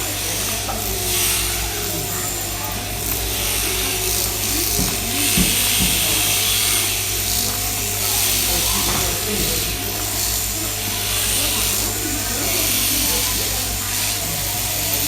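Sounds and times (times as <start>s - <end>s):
electric shearing handpiece buzzing: 0.0s - 15.0s.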